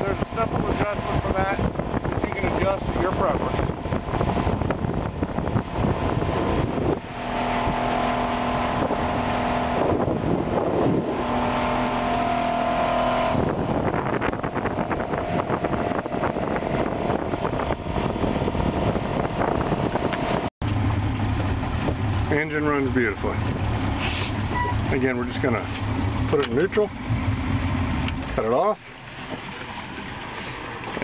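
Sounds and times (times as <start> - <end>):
outboard motor running: 0.0 - 31.0
wind and water rushing: 0.0 - 31.0.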